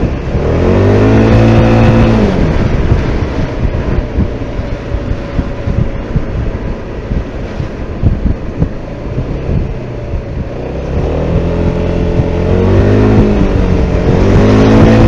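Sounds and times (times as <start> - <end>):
road noise: 0.0 - 15.0
scooter engine revving: 0.0 - 15.0
wind on microphone: 0.0 - 15.0.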